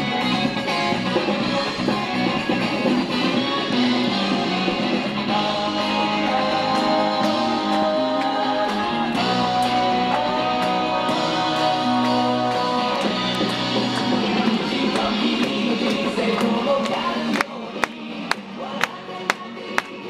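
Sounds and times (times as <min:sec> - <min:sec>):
pop music over loudspeakers: 0:00.0 - 0:20.0.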